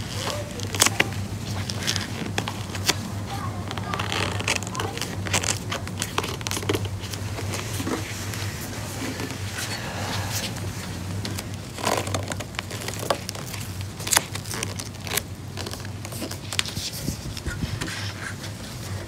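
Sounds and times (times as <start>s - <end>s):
vinyl crinkling and scraping: 0.0s - 9.8s, 10.4s - 19.0s.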